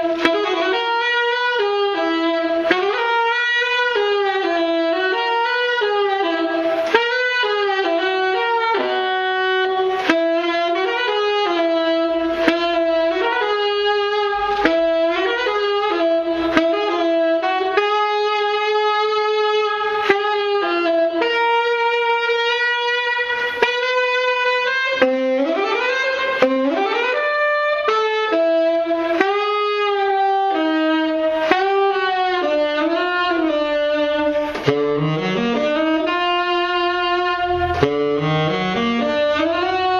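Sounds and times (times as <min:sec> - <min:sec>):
tenor saxophone improvising: 0:00.0 - 0:39.9.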